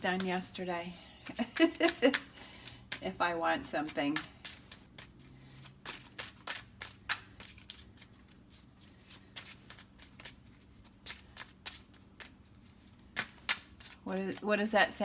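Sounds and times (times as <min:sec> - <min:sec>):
cards being shuffled by hand: 0:00.0 - 0:14.6.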